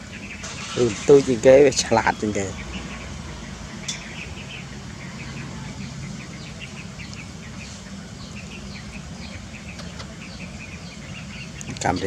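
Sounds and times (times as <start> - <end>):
small birds chirping: 0.0 - 12.0
low hum: 2.0 - 11.8.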